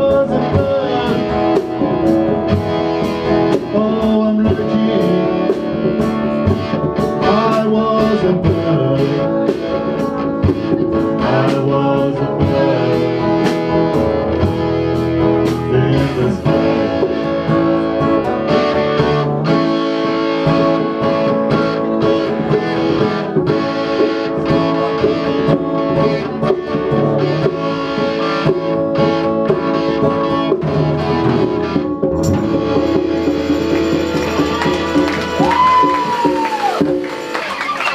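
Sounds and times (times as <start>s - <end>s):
guitar band music: 0.0s - 37.9s.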